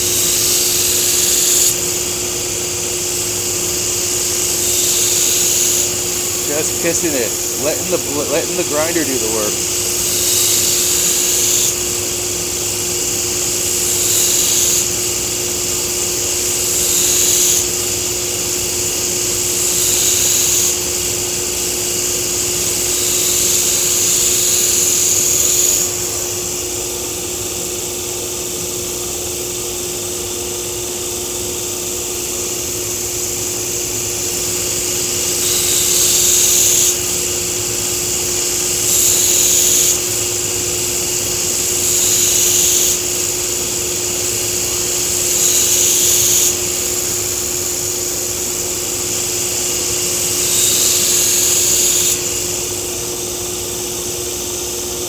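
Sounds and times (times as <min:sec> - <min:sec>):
belt grinder humming: 0:00.0 - 0:26.6, 0:31.8 - 0:53.3.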